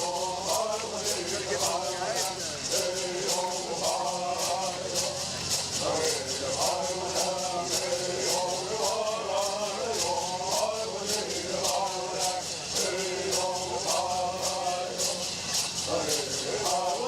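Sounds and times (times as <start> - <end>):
gourd rattles shaken: 0.0 - 17.0
men chanting in unison: 0.0 - 17.0.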